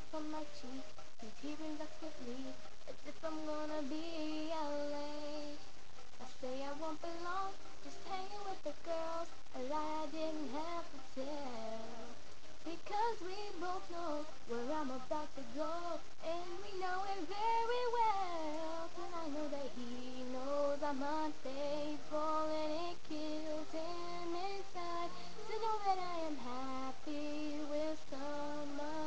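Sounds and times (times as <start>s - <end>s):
young woman singing: 0.0s - 29.0s.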